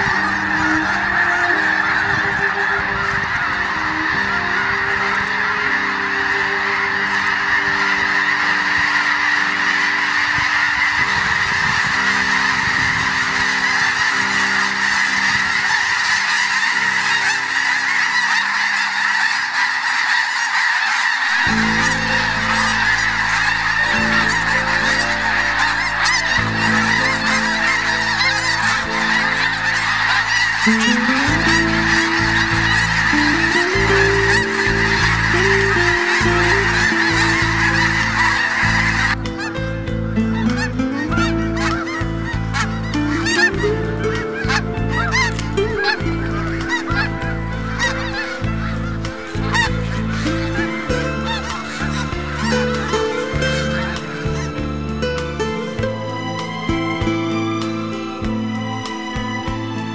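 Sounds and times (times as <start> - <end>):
geese honking in flight: 0.0 - 59.9.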